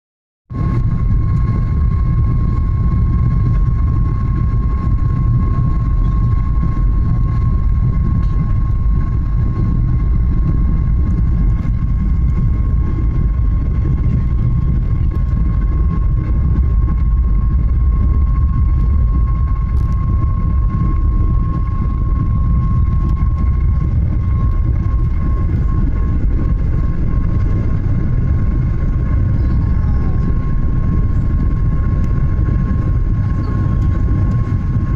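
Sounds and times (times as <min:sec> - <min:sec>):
jet engines at takeoff power: 0:00.5 - 0:34.9.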